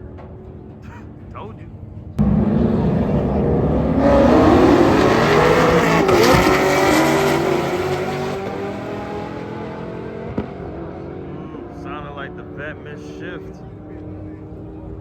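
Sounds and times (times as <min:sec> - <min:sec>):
race cars passing at full throttle: 0:01.8 - 0:15.0.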